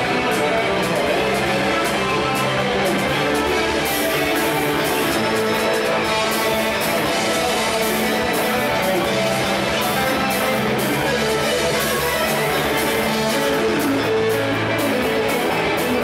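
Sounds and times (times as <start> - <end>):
drums: 0.0 - 16.0
electric bass guitar: 0.0 - 16.0
guitar: 0.0 - 16.0.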